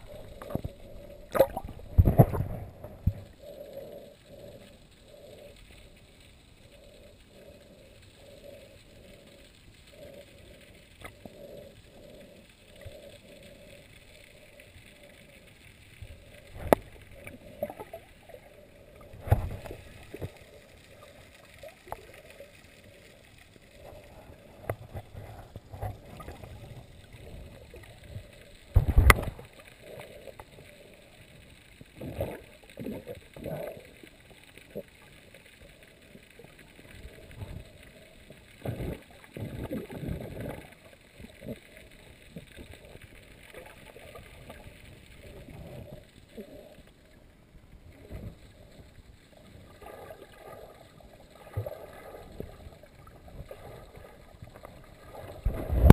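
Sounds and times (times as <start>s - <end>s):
underwater sloshing and gurgling: 0.0s - 55.9s.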